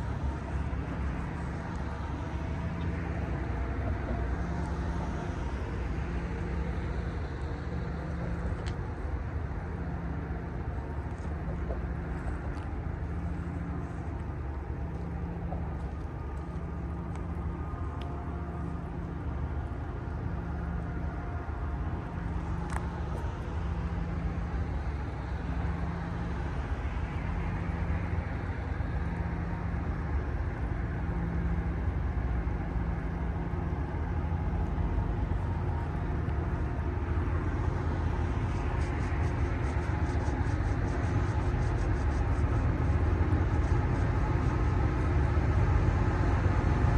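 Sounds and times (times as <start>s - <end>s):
locomotive engine rumble: 0.0s - 46.9s.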